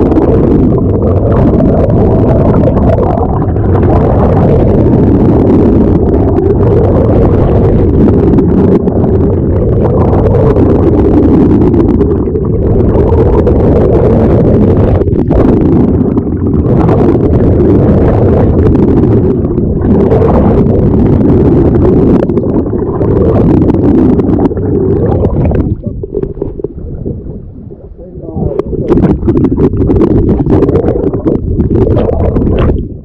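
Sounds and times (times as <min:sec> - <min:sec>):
motorboat engine running: 0:00.0 - 0:33.0
wind rumble on microphone: 0:00.0 - 0:33.0.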